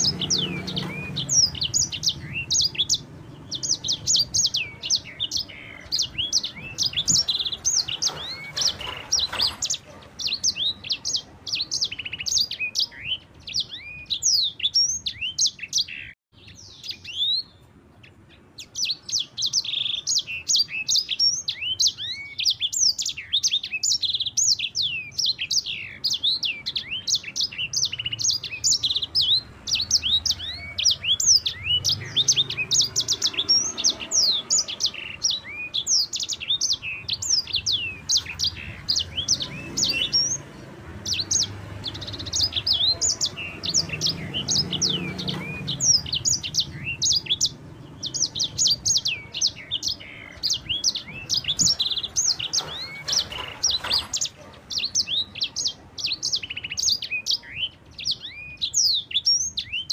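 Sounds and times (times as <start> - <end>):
finch singing: 0.0 - 59.9.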